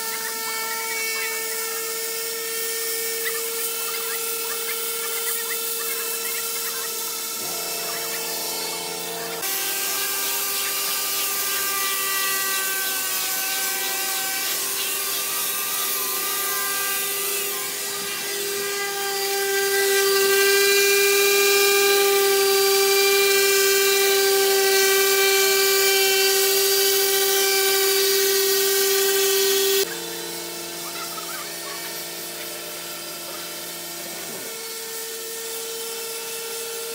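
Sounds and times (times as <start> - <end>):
electric disc sander whine: 0.0 - 36.9.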